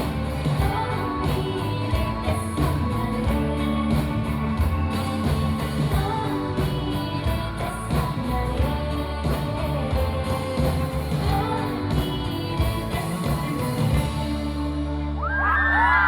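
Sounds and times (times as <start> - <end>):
live pop-rock band playing: 0.0 - 16.0.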